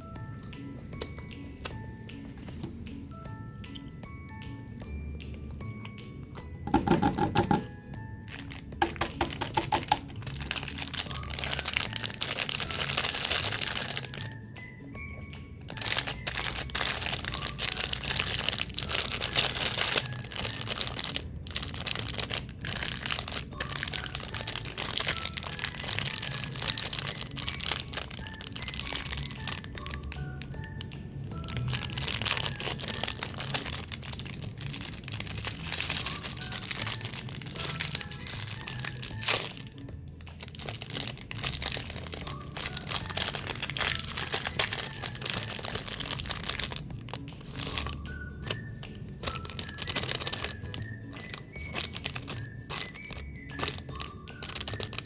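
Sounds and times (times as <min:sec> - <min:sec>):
faint background music: 0:00.0 - 0:55.0
plastic wrappers crinkling: 0:06.7 - 0:14.7, 0:15.6 - 0:55.0
wrappers tearing open: 0:08.3 - 0:14.4, 0:15.7 - 0:30.7, 0:31.3 - 0:39.8, 0:40.4 - 0:55.0.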